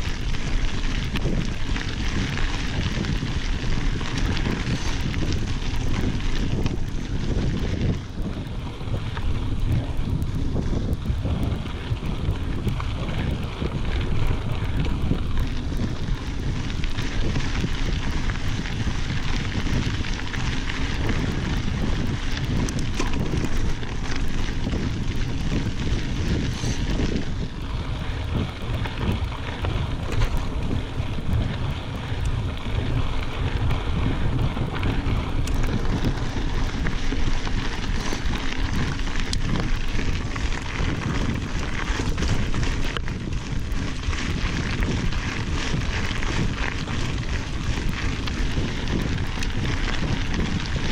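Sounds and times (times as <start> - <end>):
bike rattling: 0.0 - 50.9
steady low rumble: 0.0 - 50.9
tyres crunching on gravel: 0.0 - 50.9
wind buffeting microphone: 0.0 - 50.9.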